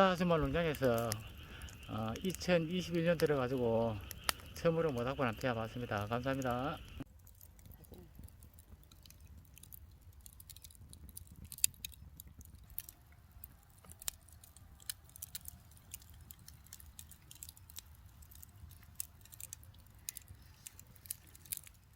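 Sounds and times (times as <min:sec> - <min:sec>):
campfire crackling and popping: 0:00.0 - 0:21.9.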